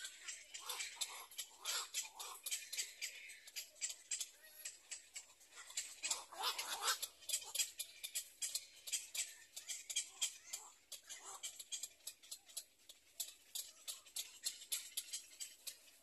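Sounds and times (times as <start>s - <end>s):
birds clicking and chittering: 0.0s - 16.0s.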